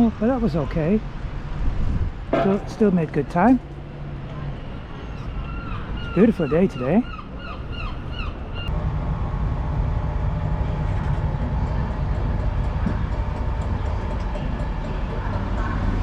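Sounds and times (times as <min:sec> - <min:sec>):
train rumbling: 0:00.0 - 0:06.9, 0:07.7 - 0:16.0.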